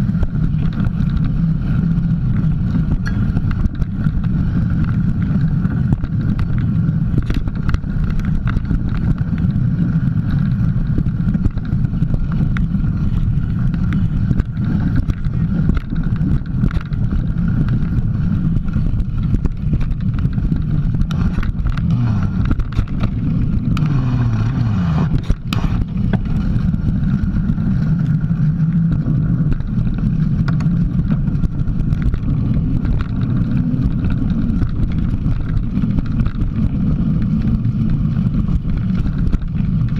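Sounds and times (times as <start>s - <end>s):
bike knocks and rattles: 0.0s - 39.9s
tyre and wind rumble: 0.0s - 39.9s.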